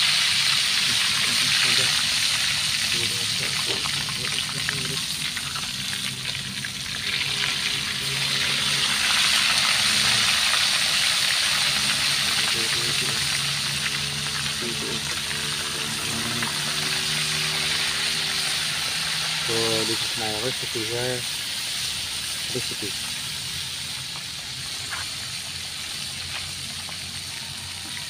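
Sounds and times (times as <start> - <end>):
fish sizzling in hot oil: 0.0 - 28.0.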